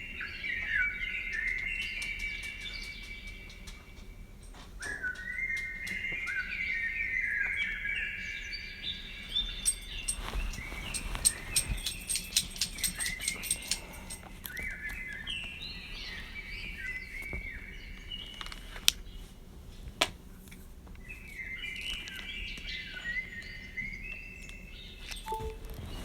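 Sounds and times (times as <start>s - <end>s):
birds chirping: 0.0s - 18.4s, 21.0s - 26.0s.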